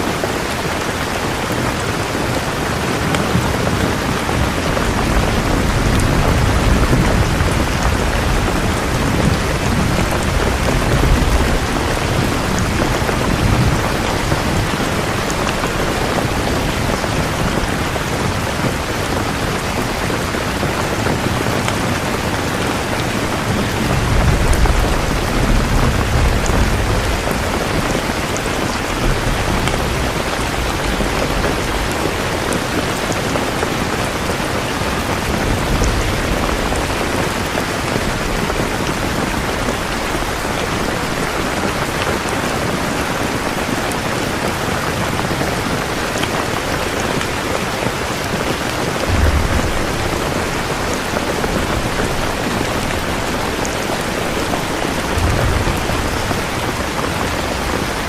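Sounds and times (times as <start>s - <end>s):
heavy rainfall: 0.0s - 58.0s
thunder rumbling: 0.1s - 58.0s.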